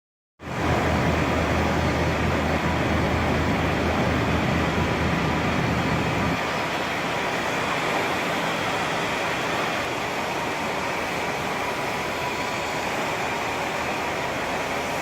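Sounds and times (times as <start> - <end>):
steady rushing noise: 0.4 - 15.0.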